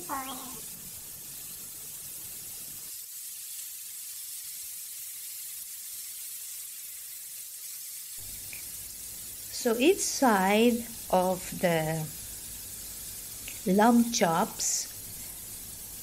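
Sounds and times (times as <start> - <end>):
meat sizzling on a grill pan: 0.0 - 16.0.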